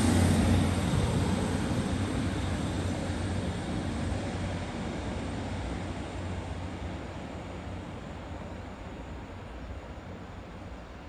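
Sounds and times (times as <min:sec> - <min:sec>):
diesel train engine hum: 0:00.0 - 0:11.0.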